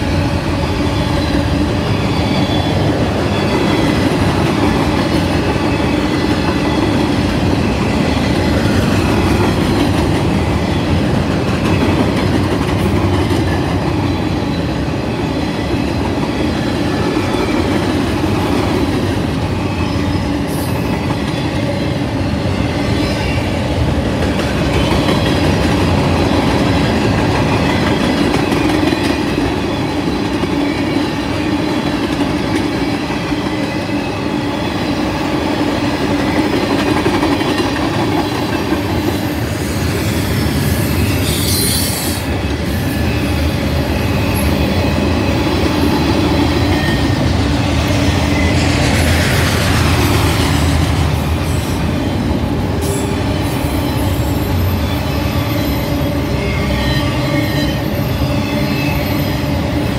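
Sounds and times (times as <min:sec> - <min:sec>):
steel wheels clattering on rail: 0:00.0 - 0:56.3
freight train rolling past: 0:00.0 - 0:59.9.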